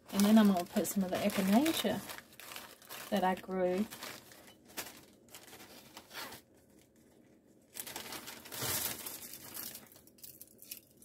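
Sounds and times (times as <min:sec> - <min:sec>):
plastic bag crinkling open: 0:00.0 - 0:11.0
rustling of plastic and dried leaves: 0:00.0 - 0:11.0.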